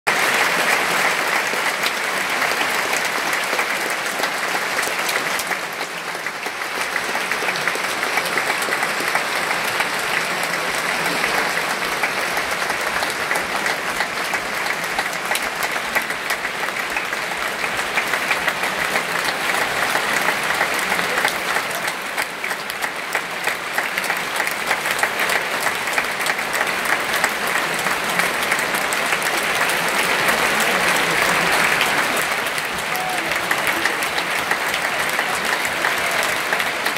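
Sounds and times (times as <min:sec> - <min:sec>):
large audience applauding: 0:00.1 - 0:36.9.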